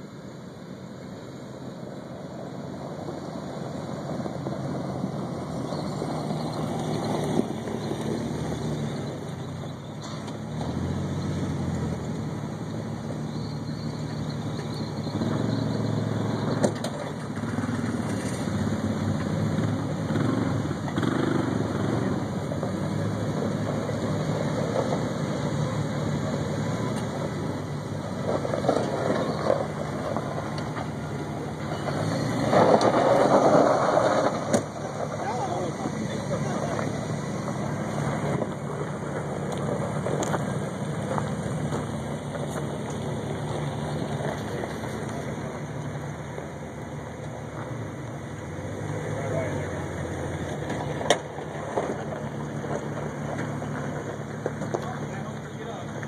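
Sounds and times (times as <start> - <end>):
truck engine running at low revs: 0.0 - 56.0.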